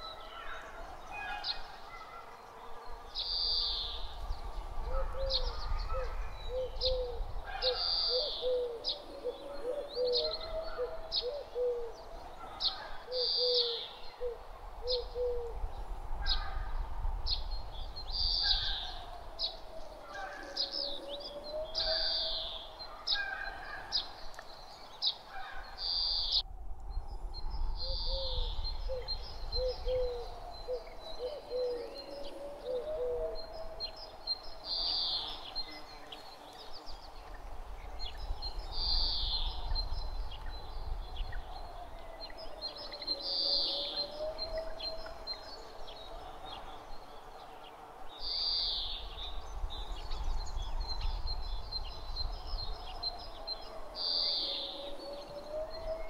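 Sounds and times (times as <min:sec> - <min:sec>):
birds chirping: 0:00.0 - 0:56.0
low wind rumble: 0:00.0 - 0:56.0
wind whistling: 0:02.9 - 0:22.8, 0:26.0 - 0:56.0.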